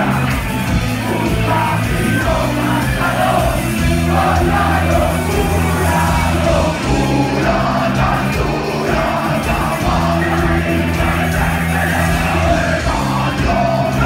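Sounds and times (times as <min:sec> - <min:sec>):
bass guitar: 0:00.0 - 0:14.0
drums: 0:00.0 - 0:14.0
electric guitars: 0:00.0 - 0:14.0
shouted lead vocal: 0:00.0 - 0:14.0.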